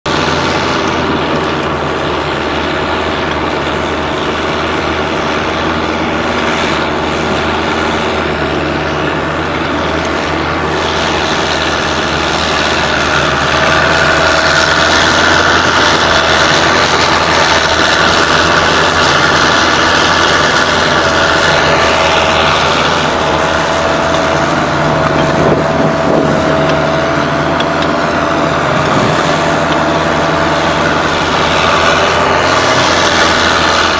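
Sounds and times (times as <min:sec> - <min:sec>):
tracked vehicle engine running: 0:00.0 - 0:33.9
high-pitched whine: 0:00.1 - 0:33.9.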